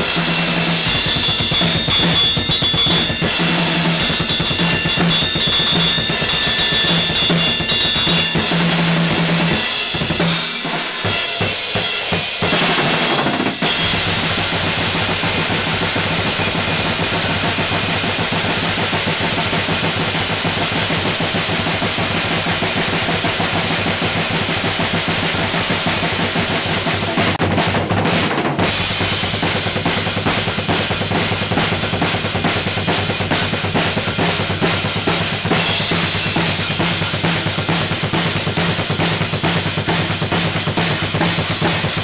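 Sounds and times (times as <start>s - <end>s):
music with drum kit: 0.0s - 42.0s.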